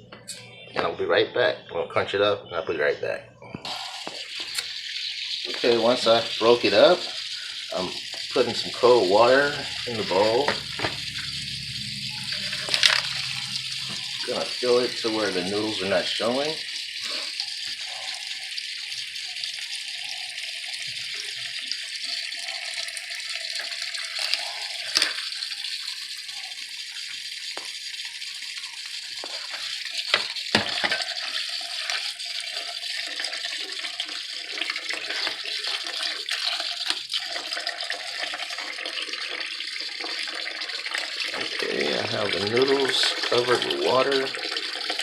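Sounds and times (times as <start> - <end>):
tap water running into bowl: 3.7 - 45.0.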